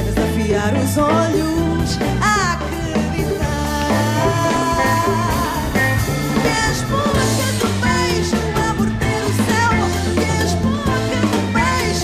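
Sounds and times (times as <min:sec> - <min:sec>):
live band playing: 0:00.0 - 0:12.0
woman singing: 0:00.0 - 0:12.0.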